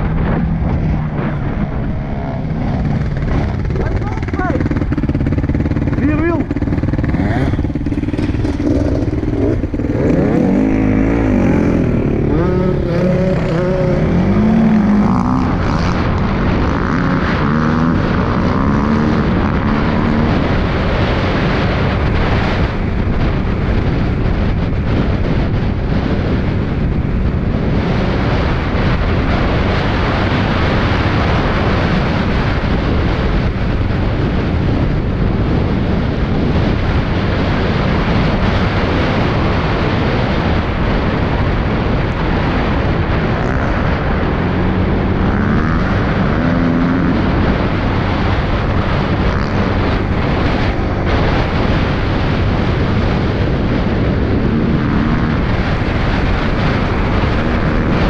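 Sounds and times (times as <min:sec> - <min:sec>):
off-road engines revving: 0:00.0 - 0:58.0
wind rushing: 0:00.0 - 0:58.0.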